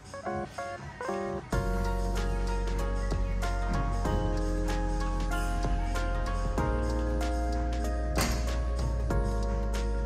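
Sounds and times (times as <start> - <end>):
steady low bass: 1.6 - 10.0.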